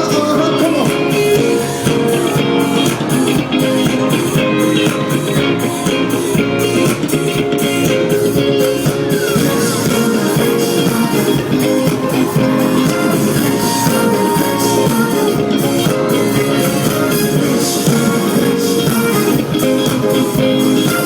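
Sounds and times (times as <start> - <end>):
drum kit beat: 0.0 - 21.0
guitar: 0.0 - 21.0.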